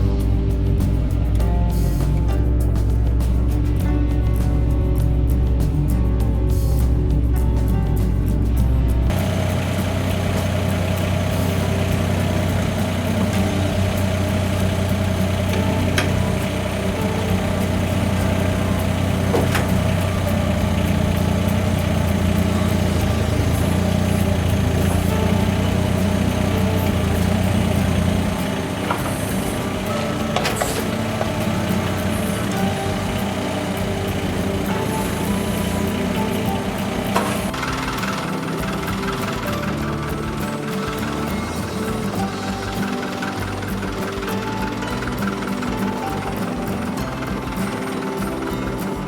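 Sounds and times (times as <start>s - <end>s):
small diesel engine running: 0.0s - 49.0s.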